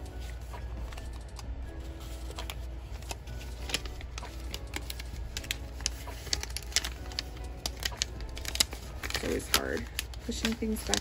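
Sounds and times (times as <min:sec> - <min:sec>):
plastic and paper crinkling: 0:00.0 - 0:11.0.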